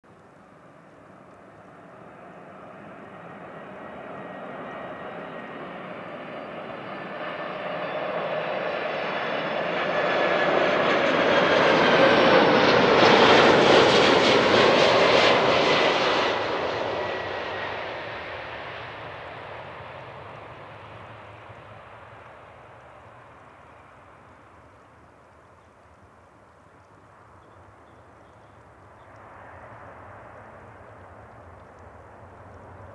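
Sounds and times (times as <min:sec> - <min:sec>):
jet airliner passing overhead: 0:00.3 - 0:26.0, 0:27.1 - 0:32.9.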